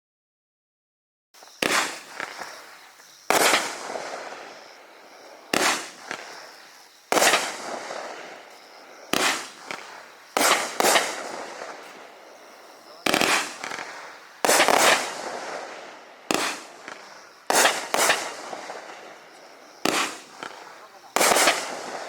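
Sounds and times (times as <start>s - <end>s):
firework crackle: 1.4s - 22.0s
firework shots bursting: 1.4s - 22.0s.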